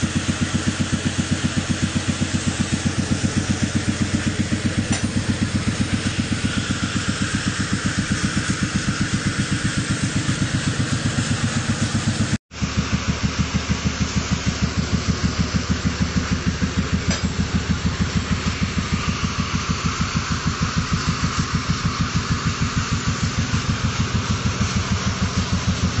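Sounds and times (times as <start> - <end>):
stationary engine thudding: 0.0 - 26.0.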